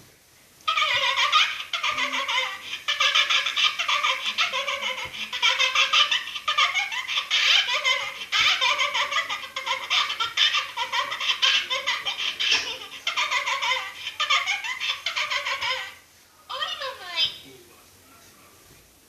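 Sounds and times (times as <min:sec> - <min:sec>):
high-pitched giggling: 0:00.7 - 0:16.0.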